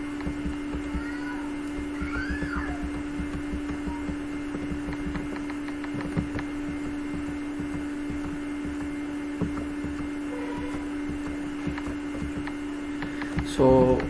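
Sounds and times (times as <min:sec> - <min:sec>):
electrical hum with crackling: 0:00.0 - 0:14.0
knocks: 0:00.0 - 0:14.0.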